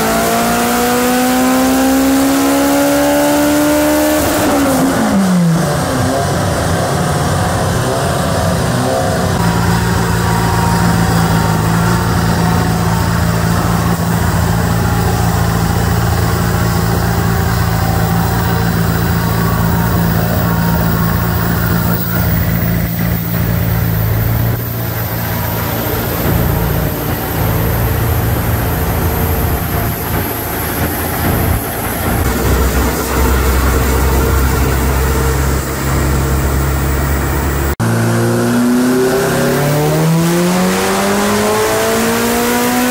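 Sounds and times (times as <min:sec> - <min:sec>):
engine and spinning rollers drone: 0:00.0 - 0:42.9.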